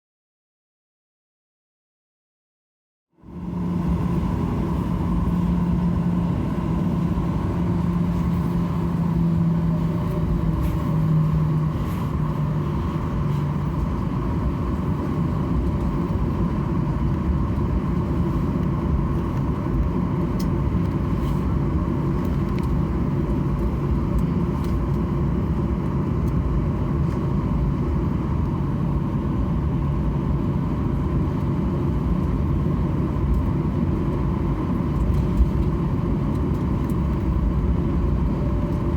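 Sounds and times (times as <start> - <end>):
jet engines rumbling in cabin: 3.2 - 38.9
low hum: 3.2 - 38.9.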